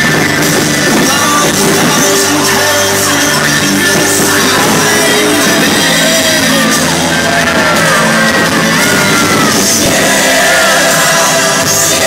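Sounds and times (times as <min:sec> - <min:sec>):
crowd shouting: 0:00.0 - 0:12.0
loud music with singing: 0:00.0 - 0:12.0.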